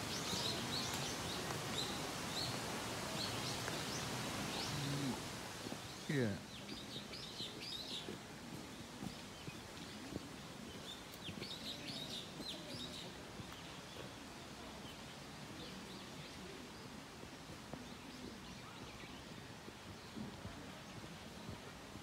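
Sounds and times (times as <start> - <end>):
faint outdoor background noise: 0.0 - 22.0
small birds chirping: 0.0 - 22.0.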